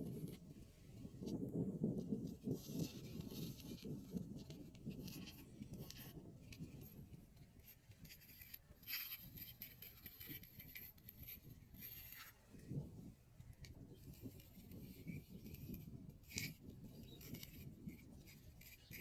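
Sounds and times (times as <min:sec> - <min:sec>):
rubbing and rustling close to microphone: 0:00.0 - 0:19.0.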